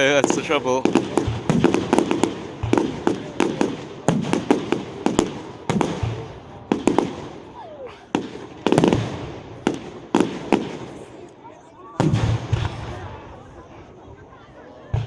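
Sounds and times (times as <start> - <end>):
fireworks bursting: 0.0 - 13.7.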